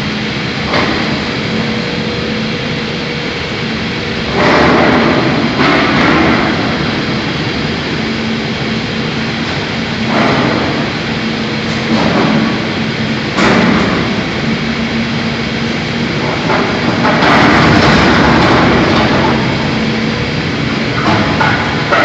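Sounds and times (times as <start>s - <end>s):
heavy machinery humming: 0.0s - 22.0s.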